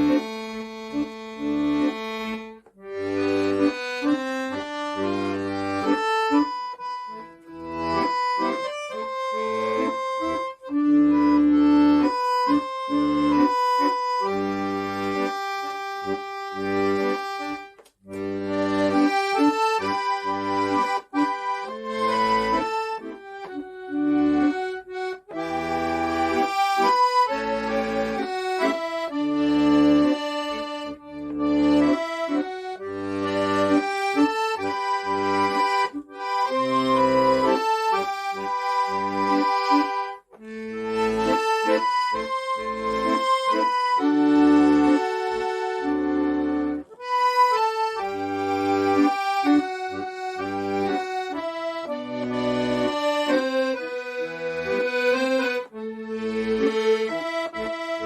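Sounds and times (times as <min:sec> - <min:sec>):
accordion melody: 0:00.0 - 0:58.0.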